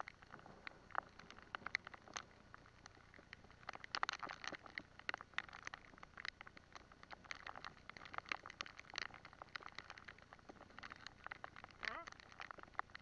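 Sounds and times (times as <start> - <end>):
rain patter: 0.0 - 13.0.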